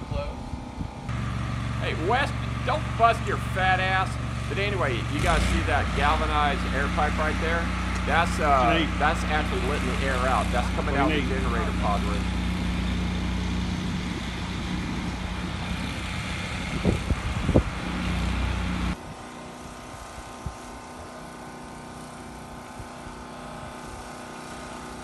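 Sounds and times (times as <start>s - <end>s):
diesel engine running: 0.0s - 25.0s
machine hum: 0.0s - 25.0s.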